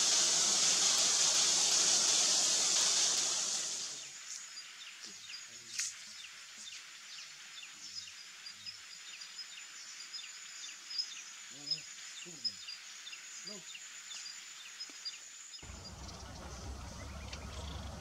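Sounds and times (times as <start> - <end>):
high insect whine: 0.0 - 18.0
loud steady hiss: 0.0 - 18.0.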